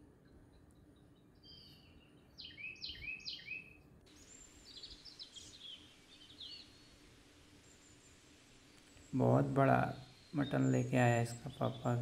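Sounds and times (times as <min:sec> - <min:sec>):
bird chirps: 0:00.2 - 0:12.0.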